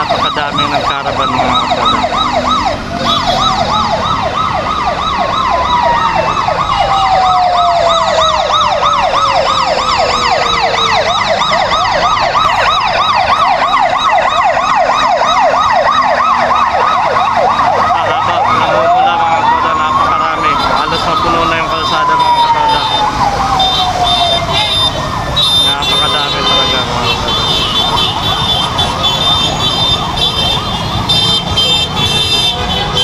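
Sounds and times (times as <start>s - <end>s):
siren sliding in pitch: 0.0s - 32.0s
yelping electronic siren: 0.0s - 33.0s.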